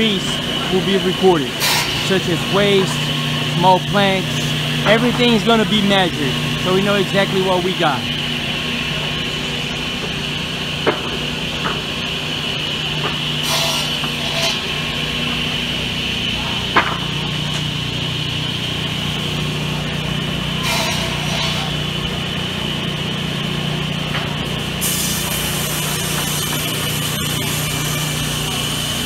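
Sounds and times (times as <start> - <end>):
sawmill machinery humming: 0.0 - 29.0.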